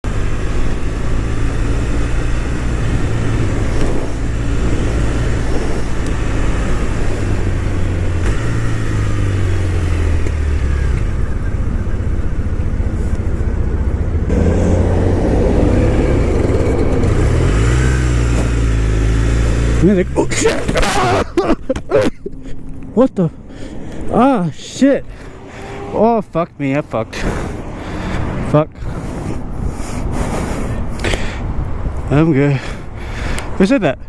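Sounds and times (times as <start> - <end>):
motorcycle engine drone: 0.0 - 32.3
road and wind hiss: 0.0 - 34.0.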